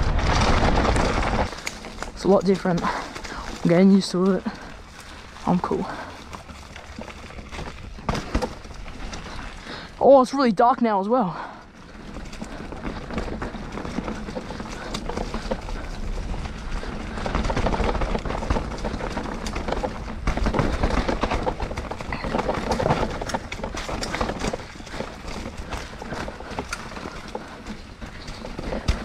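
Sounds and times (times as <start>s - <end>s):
bike knocks and rattles: 0.0s - 9.8s, 11.6s - 29.0s
bike tyres rumbling on dirt: 0.0s - 29.0s.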